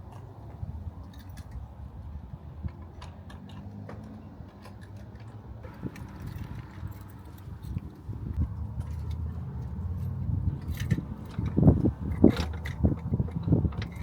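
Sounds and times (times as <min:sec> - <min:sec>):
wind and tyre rumble: 0:00.0 - 0:14.0
bicycle clicks and rattles: 0:02.6 - 0:14.0.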